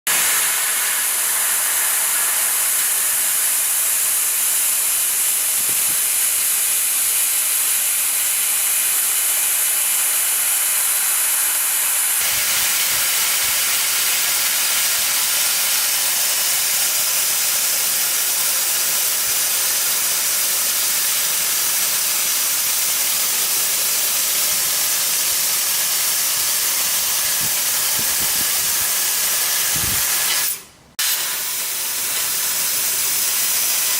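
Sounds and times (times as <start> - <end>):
laser cutter gas jet hiss: 0.1 - 33.9.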